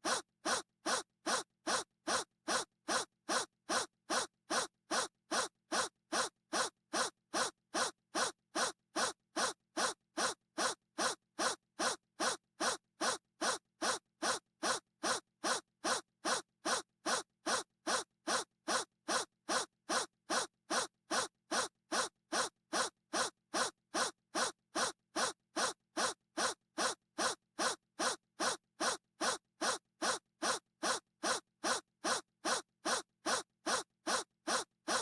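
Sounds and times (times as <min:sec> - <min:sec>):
short breathy gasp: 0:00.0 - 0:35.0.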